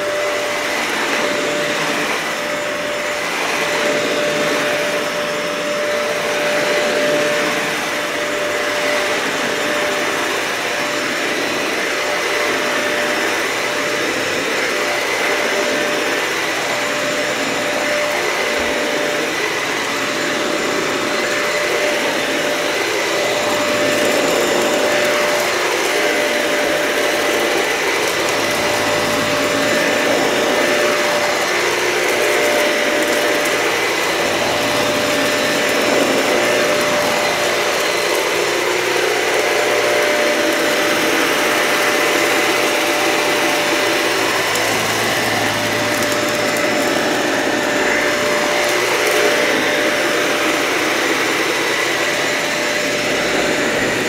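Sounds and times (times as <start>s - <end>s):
vacuum cleaner on carpet: 0.0s - 54.0s.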